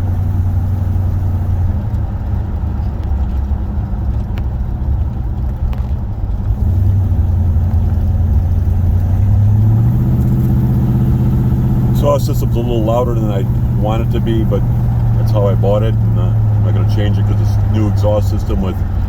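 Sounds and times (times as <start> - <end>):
car engine and exhaust droning: 0.0 - 19.0.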